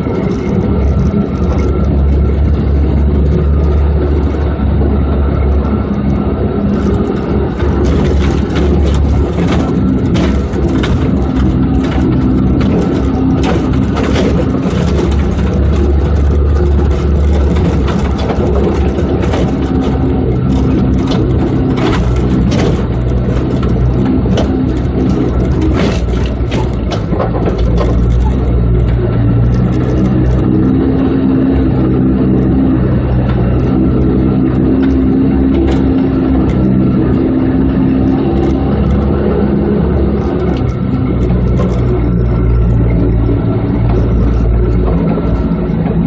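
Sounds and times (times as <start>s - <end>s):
knocks and rattles over rough ground: 0.0s - 46.0s
off-road vehicle engine running: 0.0s - 46.0s.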